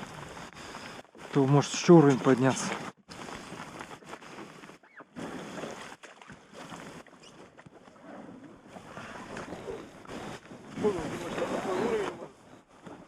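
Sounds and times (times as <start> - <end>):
boat fabric scraping on ground: 0.0 - 13.0.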